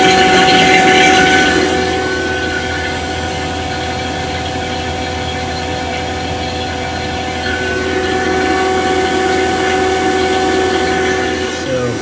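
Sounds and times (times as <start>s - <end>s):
vacuum pump humming and whining: 0.0s - 12.0s.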